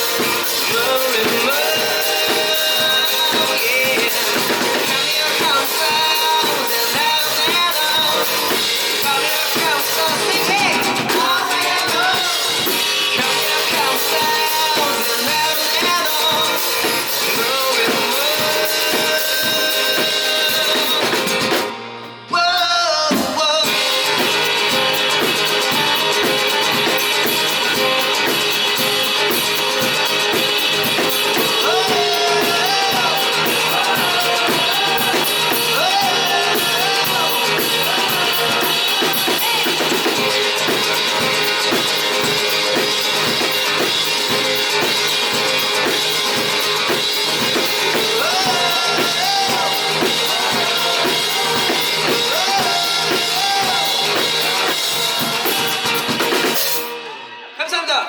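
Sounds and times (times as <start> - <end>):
drum kit beat: 0.0 - 58.0
rock band playing live: 0.0 - 58.0.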